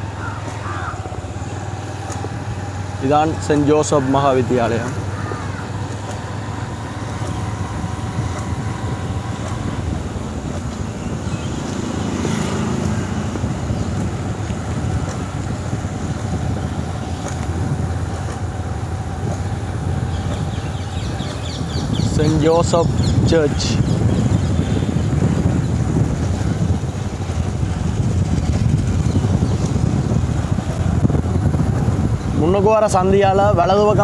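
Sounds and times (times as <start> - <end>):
motorcycle engine drone: 0.0 - 34.0
road rumble: 0.0 - 34.0
wind: 0.0 - 34.0.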